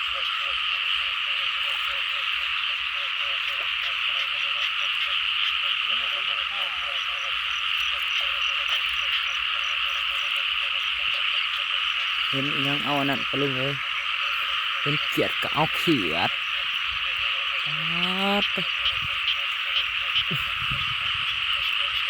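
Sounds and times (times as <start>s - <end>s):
chorus of frogs calling: 0.0s - 22.0s.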